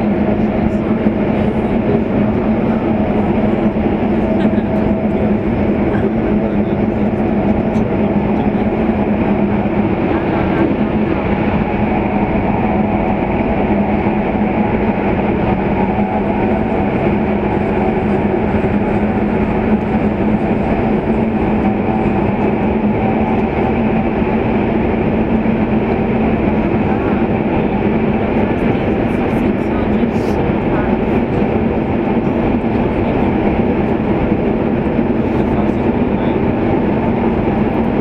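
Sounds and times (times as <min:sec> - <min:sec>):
constant hum: 0:00.0 - 0:38.0
train running noise: 0:00.0 - 0:38.0.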